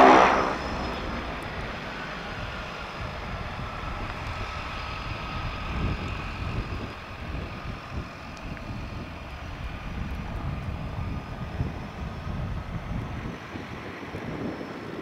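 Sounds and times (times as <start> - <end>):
turboprop engines whining: 0.0 - 15.0.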